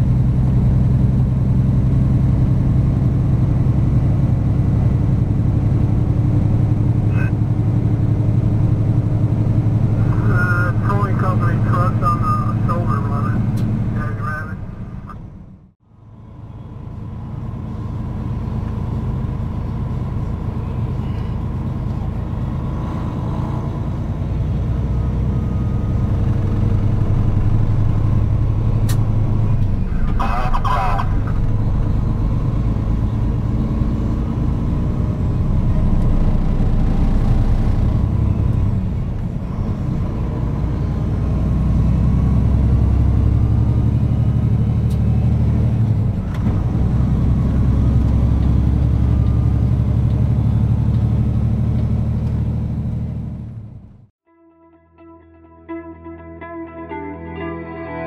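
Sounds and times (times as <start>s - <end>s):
truck engine and road drone: 0.0s - 54.2s.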